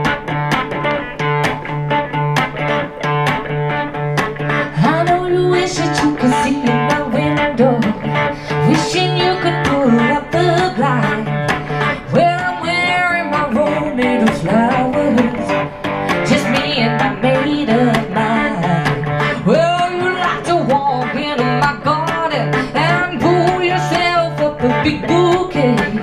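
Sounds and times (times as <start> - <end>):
blues-rock guitar with bending notes: 0.0 - 26.0.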